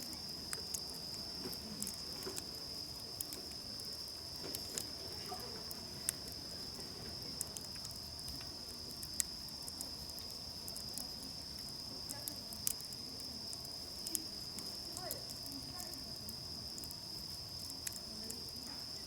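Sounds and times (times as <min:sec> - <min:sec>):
campfire crackling and popping: 0:00.0 - 0:19.0
insects trilling: 0:00.0 - 0:19.0.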